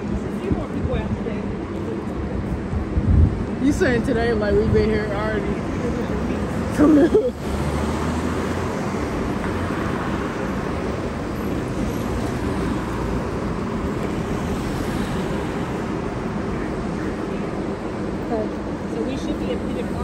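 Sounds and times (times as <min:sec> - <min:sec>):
vehicle and road noise: 0:00.0 - 0:20.0.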